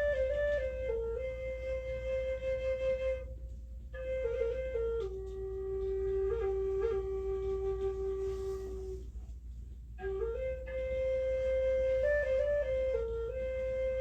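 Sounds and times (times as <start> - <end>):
flute playing long notes: 0.0 - 9.4, 10.0 - 14.0.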